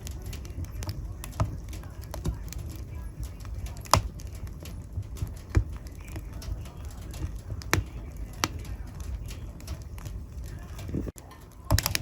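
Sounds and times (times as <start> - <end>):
sharp fire pops: 0.0 - 12.0
wood fire crackling: 0.0 - 12.0.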